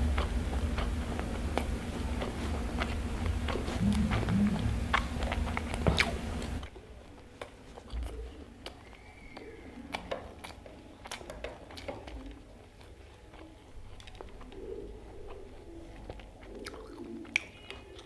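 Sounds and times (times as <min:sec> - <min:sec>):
chewing and mouth sounds: 0:00.0 - 0:18.0
low background hum: 0:00.0 - 0:18.0.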